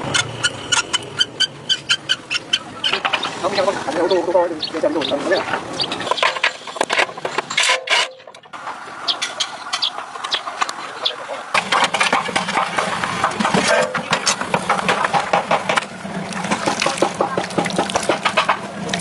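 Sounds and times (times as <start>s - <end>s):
engine running with rapid ticking: 0.0s - 7.6s, 8.2s - 19.0s.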